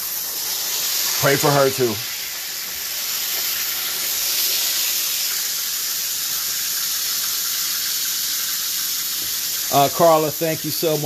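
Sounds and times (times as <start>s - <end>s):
steaks sizzling in hot oil: 0.0s - 11.0s.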